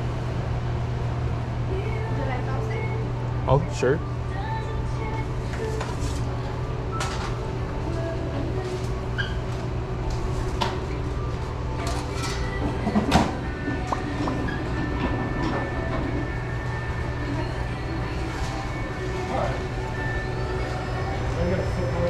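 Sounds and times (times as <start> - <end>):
restaurant equipment humming: 0.0 - 22.0.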